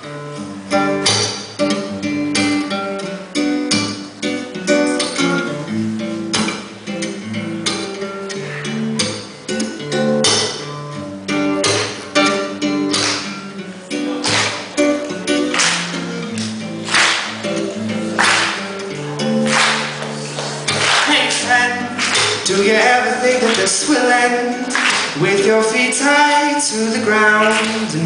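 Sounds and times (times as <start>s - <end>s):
guitar strumming chords: 0.0s - 28.0s.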